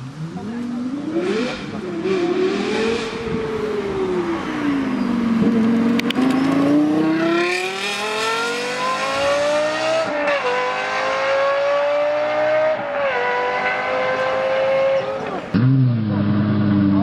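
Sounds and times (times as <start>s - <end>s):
sports car engine accelerating: 0.0s - 17.0s.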